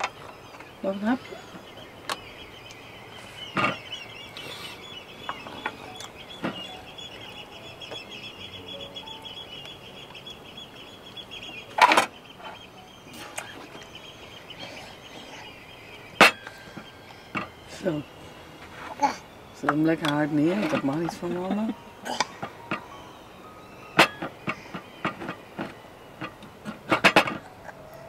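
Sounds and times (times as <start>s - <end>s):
high chirring: 0.0s - 28.0s.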